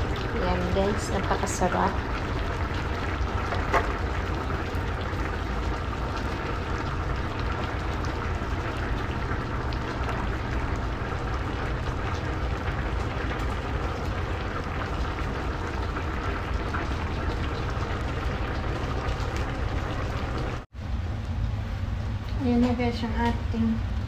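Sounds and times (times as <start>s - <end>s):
stew simmering in a pan: 0.0s - 24.0s.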